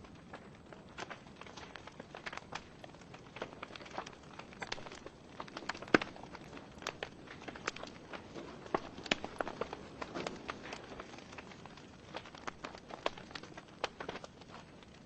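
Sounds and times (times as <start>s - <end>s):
faint fire hiss: 0.0s - 15.0s
logs crackling and popping: 0.0s - 15.0s.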